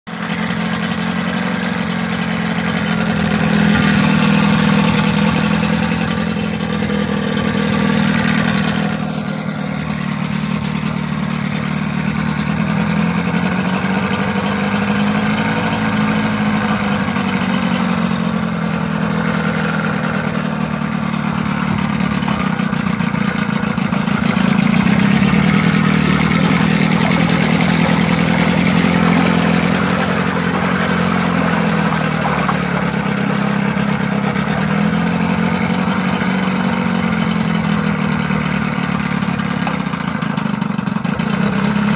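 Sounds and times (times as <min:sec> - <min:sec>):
outboard motor running: 0:00.1 - 0:41.9.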